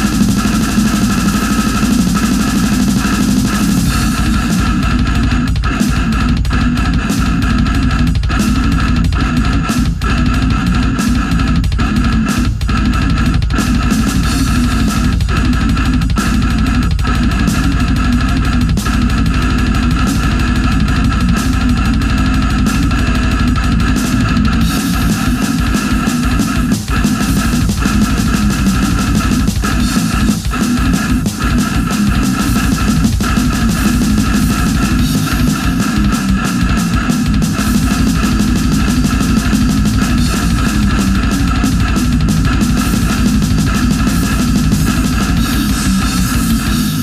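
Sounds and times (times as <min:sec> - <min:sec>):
drum kit: 0:00.0 - 0:47.0
electric guitar: 0:00.0 - 0:47.0.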